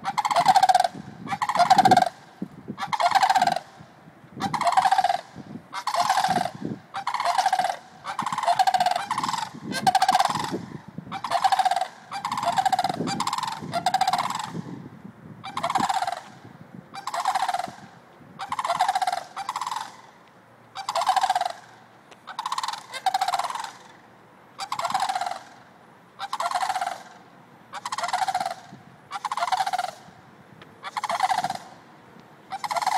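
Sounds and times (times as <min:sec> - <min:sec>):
cranes giving rattling calls: 0:00.0 - 0:03.8, 0:04.4 - 0:14.8, 0:15.4 - 0:30.2, 0:30.8 - 0:31.8, 0:32.5 - 0:32.9.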